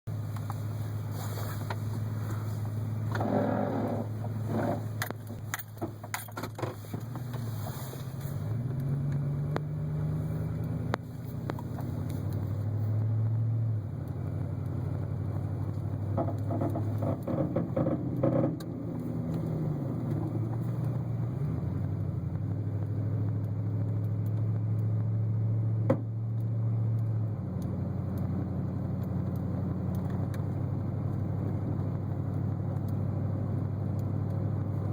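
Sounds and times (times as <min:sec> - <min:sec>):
pickup engine running: 0:00.1 - 0:34.9.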